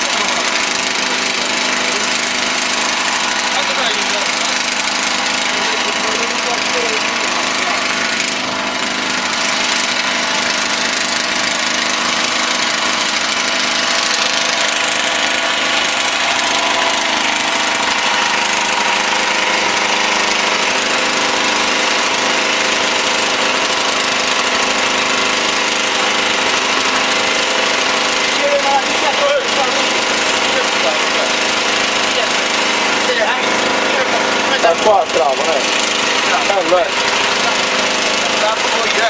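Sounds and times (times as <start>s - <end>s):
motor running: 0.0s - 39.0s.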